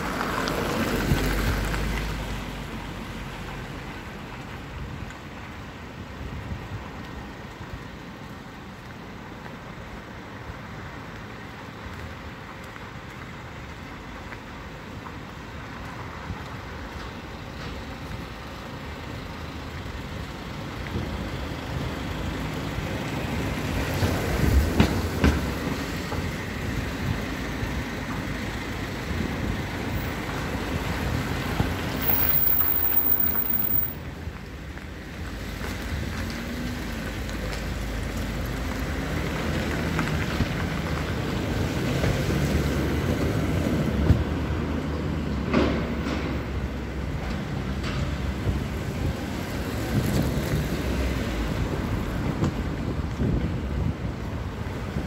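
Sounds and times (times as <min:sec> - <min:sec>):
tyres hissing on wet road: 0:00.0 - 0:55.0.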